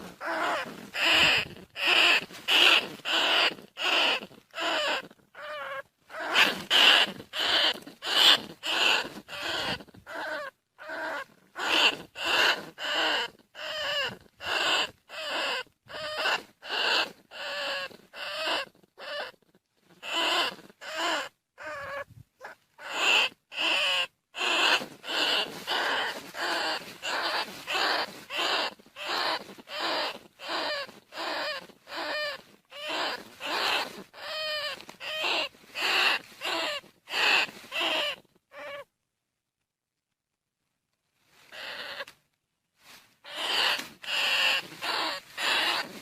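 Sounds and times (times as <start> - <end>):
rat squealing cries: 0.0 - 38.9, 41.5 - 42.1, 43.2 - 46.0.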